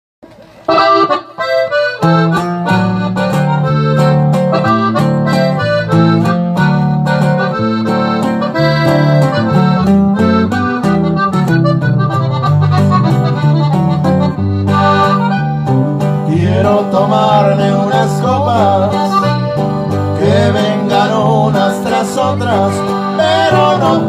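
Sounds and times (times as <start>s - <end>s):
accordion melody: 0.6s - 24.0s
low bass line: 2.2s - 24.0s.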